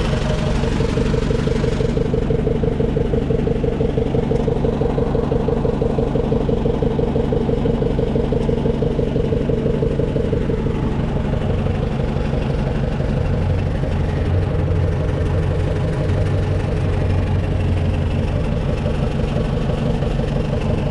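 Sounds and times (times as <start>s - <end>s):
skid steer engine running: 0.0s - 20.9s.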